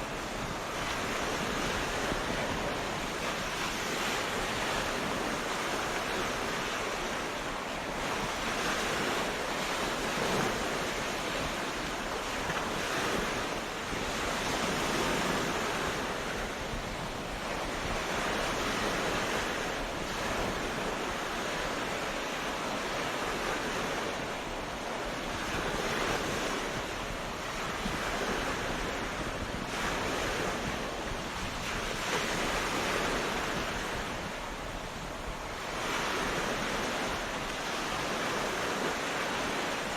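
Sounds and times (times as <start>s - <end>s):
ocean waves washing onto beach: 0.0s - 39.9s
wind: 0.0s - 39.9s.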